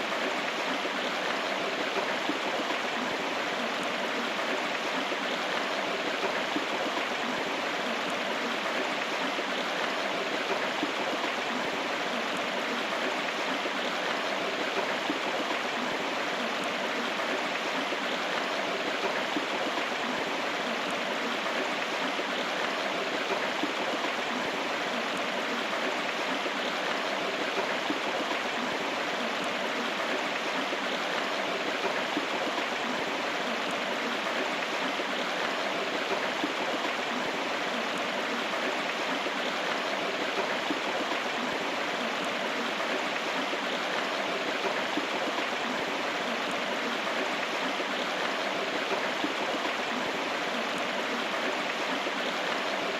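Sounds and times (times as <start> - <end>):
river flowing: 0.0 - 52.9.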